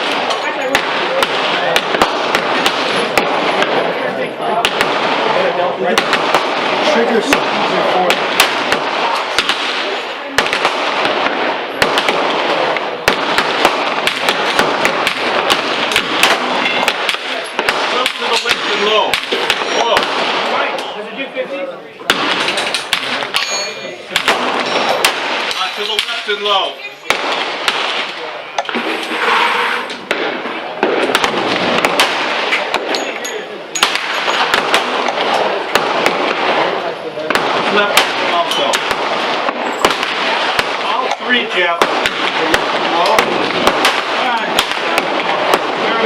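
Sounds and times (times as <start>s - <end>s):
gunshots: 0.0s - 21.0s, 22.0s - 46.0s.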